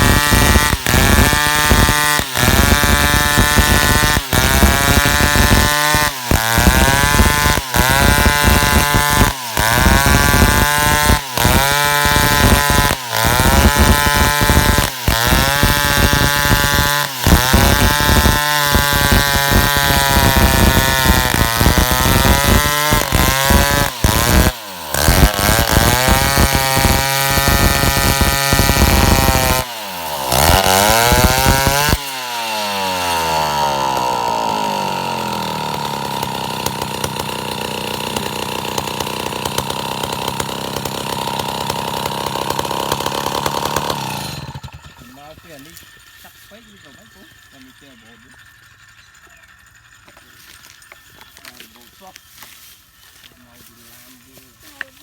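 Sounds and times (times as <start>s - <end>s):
chainsaw cutting wood: 0.0s - 55.0s
chainsaw idling: 0.0s - 55.0s.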